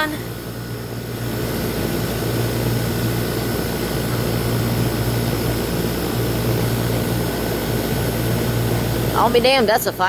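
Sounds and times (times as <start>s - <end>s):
compressor hum: 0.0s - 10.0s
condenser fan whoosh: 0.0s - 10.0s.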